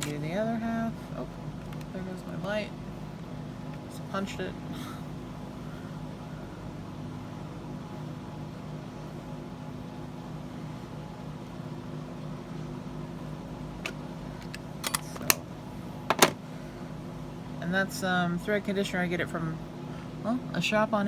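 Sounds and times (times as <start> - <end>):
house fan humming: 0.0 - 21.0.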